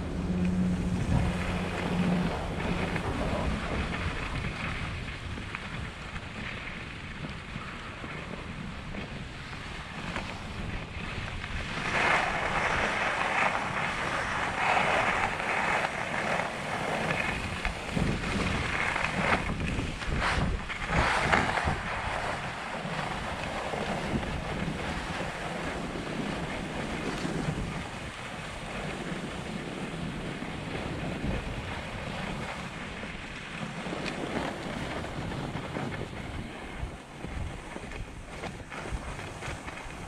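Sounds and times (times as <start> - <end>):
skis scraping over packed snow: 0.0 - 40.0
wind buffeting microphone: 0.0 - 40.0.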